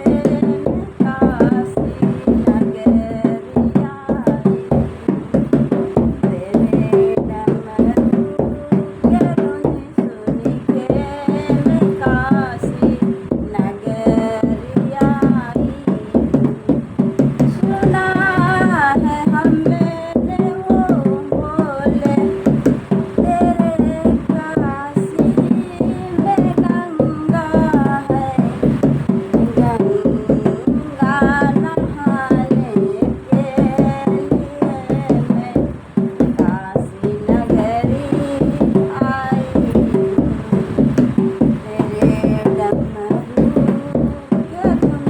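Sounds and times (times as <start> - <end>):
fast hand-drum beat: 0.0 - 45.0
person singing ornamented melody: 0.0 - 45.0.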